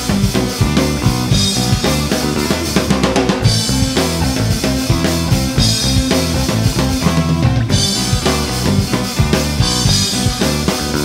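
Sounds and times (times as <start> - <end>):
drum kit beat: 0.0 - 11.0
rock band playing: 0.0 - 11.0.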